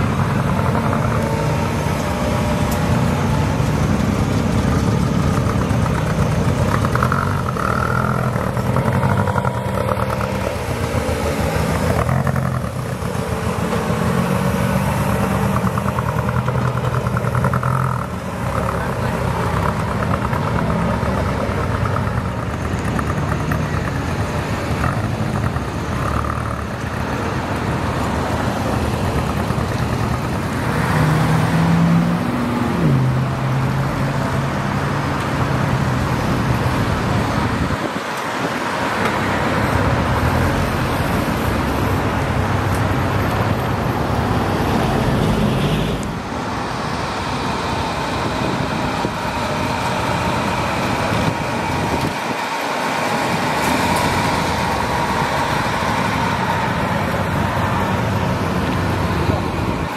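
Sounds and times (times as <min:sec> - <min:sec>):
cars driving past: 0:00.0 - 0:59.9.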